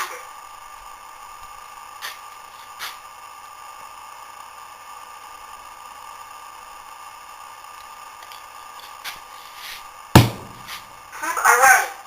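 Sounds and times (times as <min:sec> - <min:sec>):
static-like hiss: 0:00.0 - 0:12.0.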